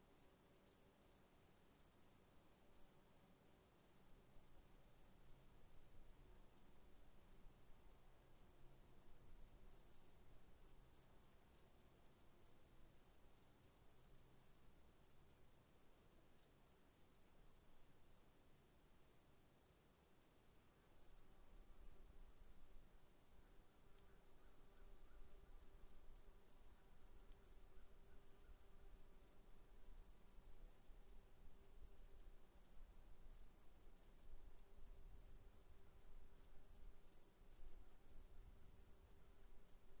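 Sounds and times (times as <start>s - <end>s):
crickets chirping: 0.1s - 40.0s.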